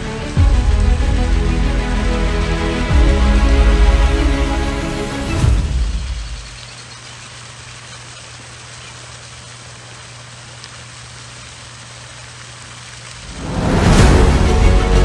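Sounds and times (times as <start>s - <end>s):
fountain spray splashing on water: 0.0s - 15.0s.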